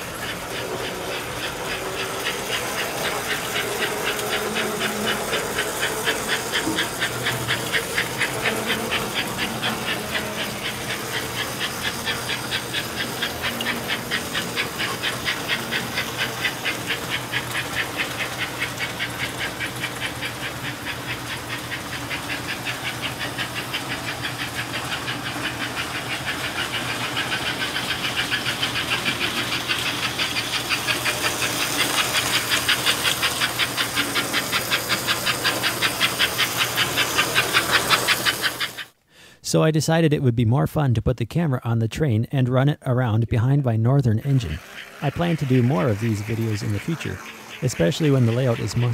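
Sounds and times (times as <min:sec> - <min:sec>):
electric motor hum: 0:00.0 - 0:39.0, 0:44.2 - 0:48.9
model steam train chuffing: 0:00.0 - 0:39.4, 0:44.0 - 0:48.9.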